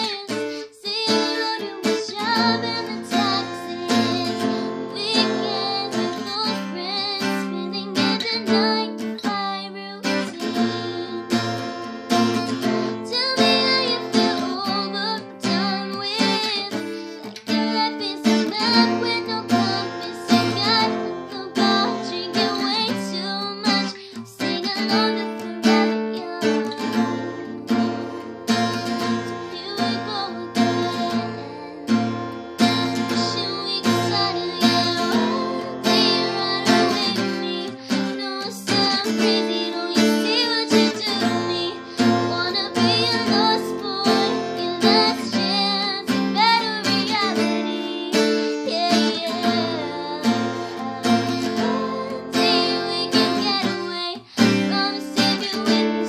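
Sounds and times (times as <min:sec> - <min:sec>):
acoustic guitar strumming: 0:00.0 - 0:56.0
woman singing: 0:00.0 - 0:56.0.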